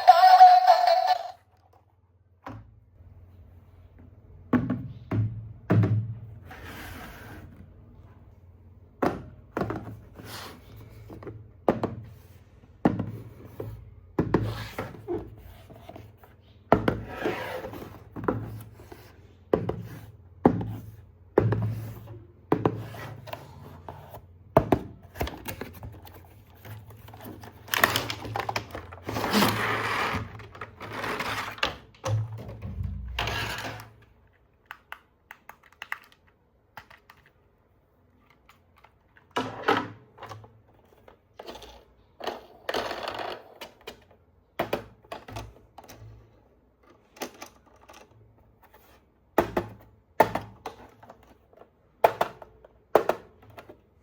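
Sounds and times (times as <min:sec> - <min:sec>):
plastic toys knocking and rubbing: 0:08.9 - 0:54.0.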